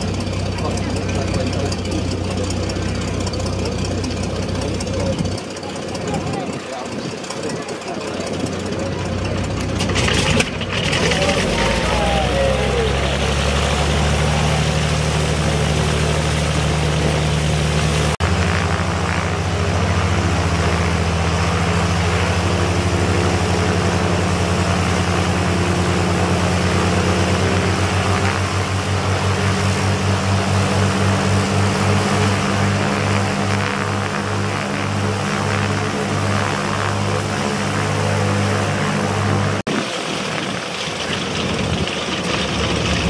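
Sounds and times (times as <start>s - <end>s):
piston aircraft engines running: 0.0s - 43.0s.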